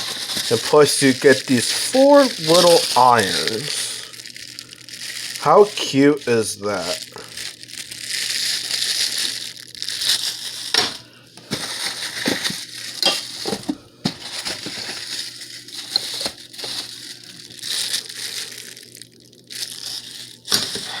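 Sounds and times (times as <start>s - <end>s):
packaging crinkling: 0.0s - 21.0s.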